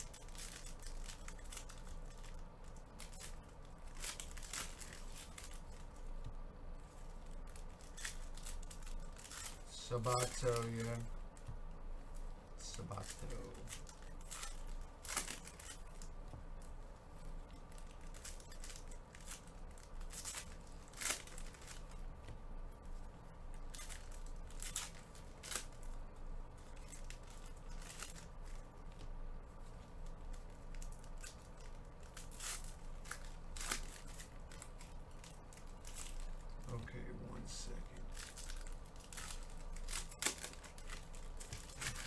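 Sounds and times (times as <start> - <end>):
foil wrappers crinkling and tearing: 0.0 - 6.2, 6.8 - 42.0.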